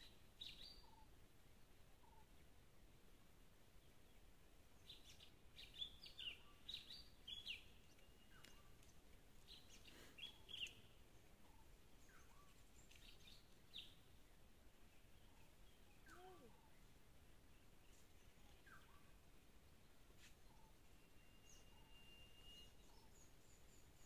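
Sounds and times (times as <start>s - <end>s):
quiet hiss: 0.0s - 24.0s
birds chirping: 4.1s - 24.0s.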